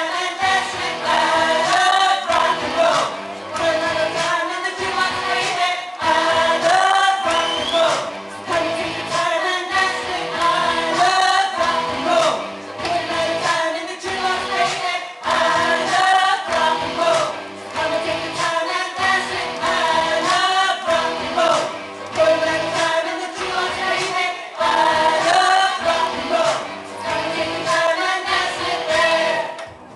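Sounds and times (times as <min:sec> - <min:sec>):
song with lead vocal: 0:00.0 - 0:29.9.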